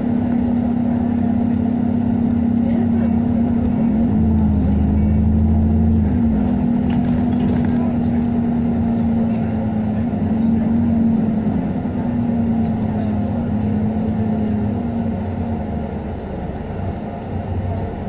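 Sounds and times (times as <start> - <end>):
bus engine whine: 0.0 - 18.0.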